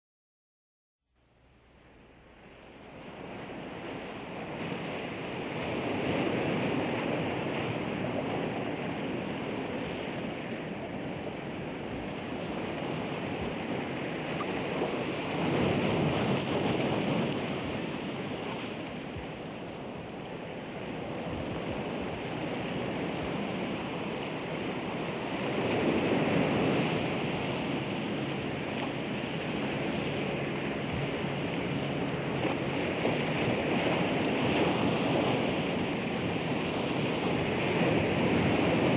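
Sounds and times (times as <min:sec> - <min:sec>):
ocean waves rushing: 0:02.2 - 0:38.9.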